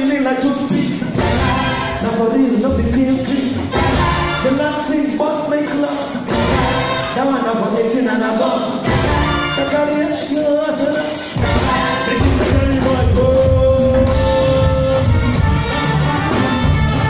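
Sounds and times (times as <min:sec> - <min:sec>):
person singing: 0:00.0 - 0:16.1
bass and drums: 0:00.0 - 0:17.0
live band music: 0:00.0 - 0:17.0.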